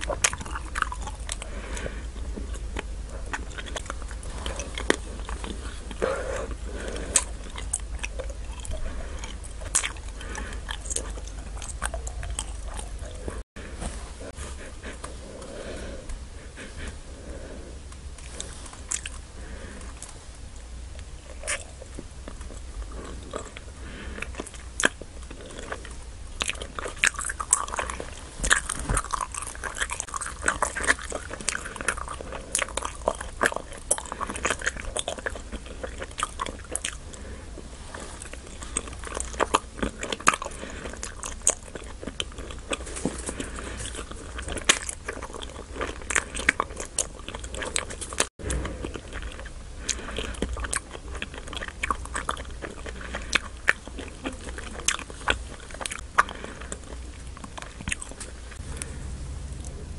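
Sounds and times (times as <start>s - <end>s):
chewing gummy candy: 0.0s - 13.5s, 14.2s - 59.9s.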